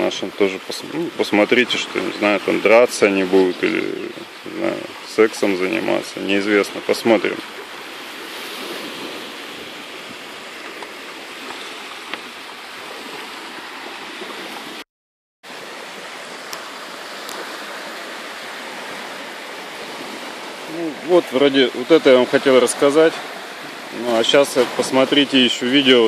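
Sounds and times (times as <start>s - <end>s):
sea surf washing on shore: 0.0s - 14.8s, 15.5s - 26.0s.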